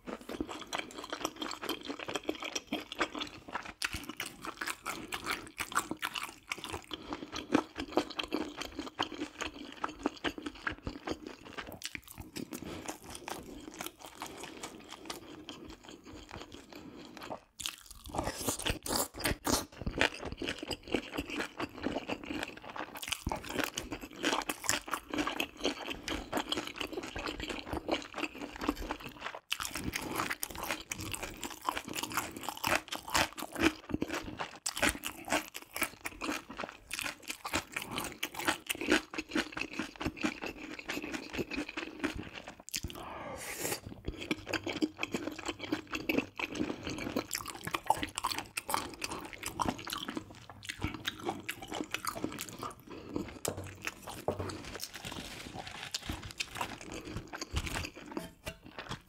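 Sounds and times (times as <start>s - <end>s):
person chewing wetly: 0.0s - 43.1s, 43.7s - 59.0s.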